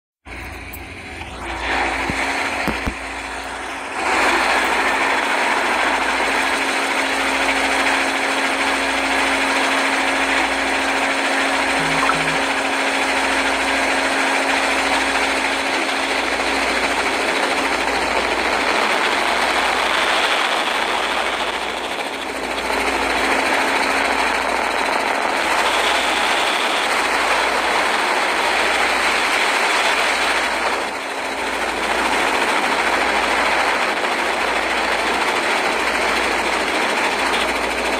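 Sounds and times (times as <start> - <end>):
motorboat engine hum: 0.3 - 37.9
constant rushing noise: 0.6 - 37.9.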